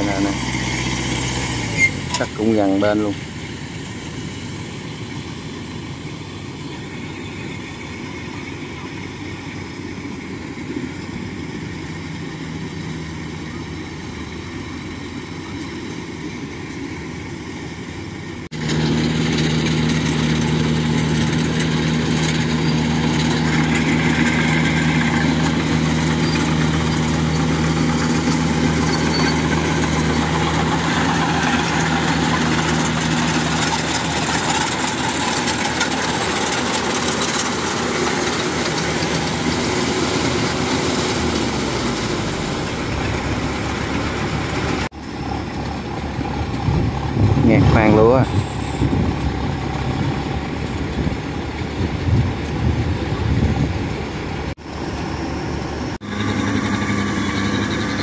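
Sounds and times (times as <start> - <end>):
combine harvester engine humming: 0.0 - 58.0.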